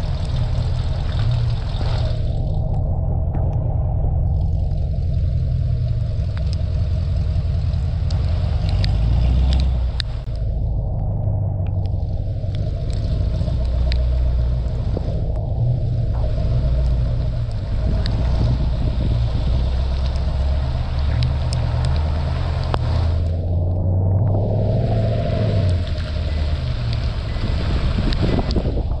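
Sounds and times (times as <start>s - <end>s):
car engines rumbling: 0.0s - 29.0s
raindrops ticking on microphone: 0.0s - 29.0s.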